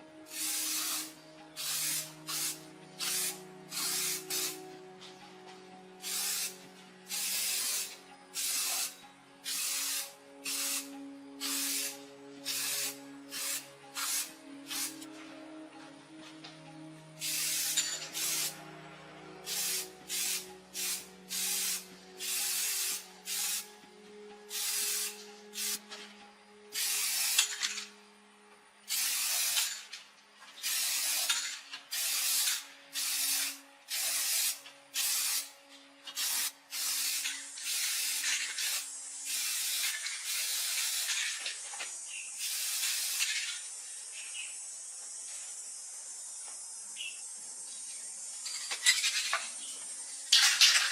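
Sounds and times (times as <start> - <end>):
short bursts of hissing spray: 0.3 - 4.7, 6.0 - 15.1, 17.2 - 18.6, 19.4 - 23.7, 24.5 - 25.9, 26.7 - 27.9, 28.9 - 29.9, 30.6 - 35.5, 36.1 - 50.9.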